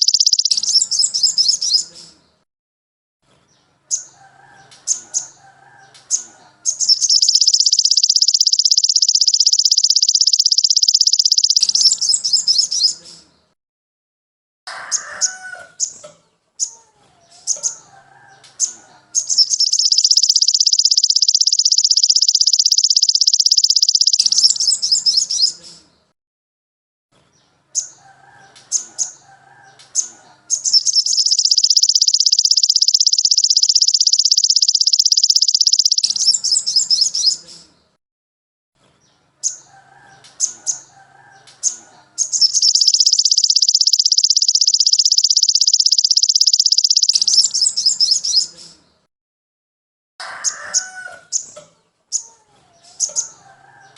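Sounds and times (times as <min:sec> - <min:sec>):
songbird chirps and trill: 0:00.0 - 0:02.4, 0:03.3 - 0:13.6, 0:14.7 - 0:26.1, 0:27.2 - 0:38.0, 0:38.9 - 0:49.1, 0:50.2 - 0:53.9.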